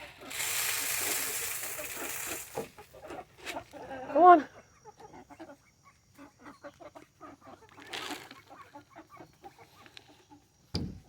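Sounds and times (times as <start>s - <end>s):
chickens clucking: 0.0s - 10.7s.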